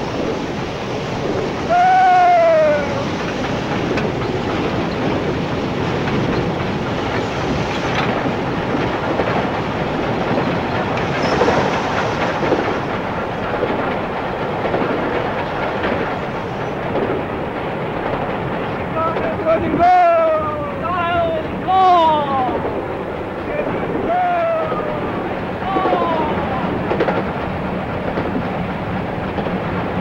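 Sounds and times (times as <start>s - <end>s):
steam locomotive running: 0.0s - 30.0s
wheels clattering on rails: 0.0s - 30.0s.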